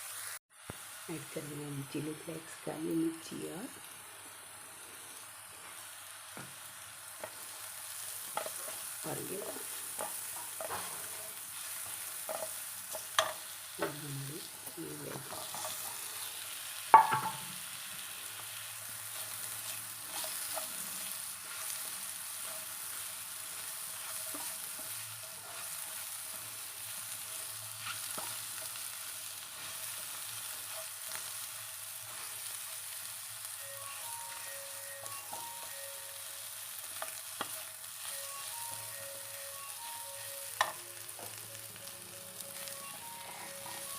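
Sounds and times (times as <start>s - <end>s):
mushrooms sizzling in a pan: 0.0s - 43.9s.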